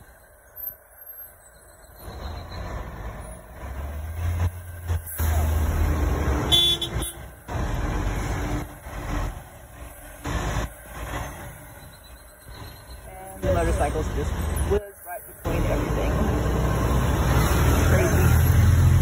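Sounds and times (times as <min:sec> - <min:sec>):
diesel coach engine rumble: 0:00.0 - 0:19.0.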